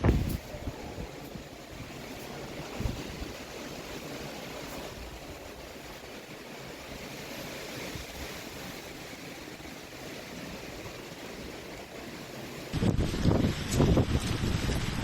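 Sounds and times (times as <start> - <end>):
strong wind rushing: 0.0 - 15.0.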